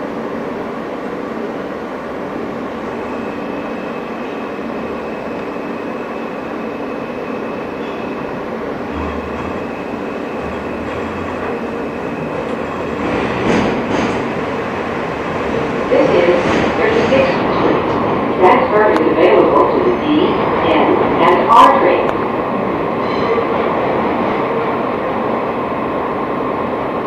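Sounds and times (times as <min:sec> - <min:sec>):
subway car wheels rumbling: 0:00.0 - 0:27.0.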